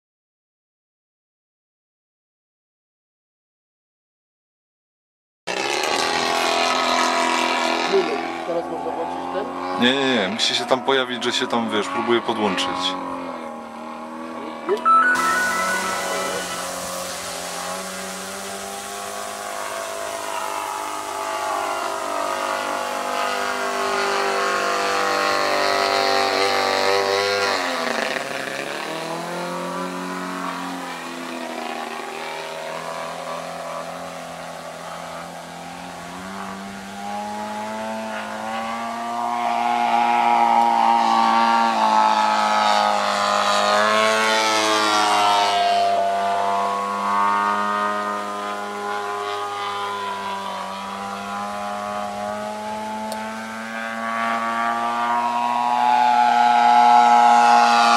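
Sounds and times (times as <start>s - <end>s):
model plane engine in flight: 5.5s - 57.9s.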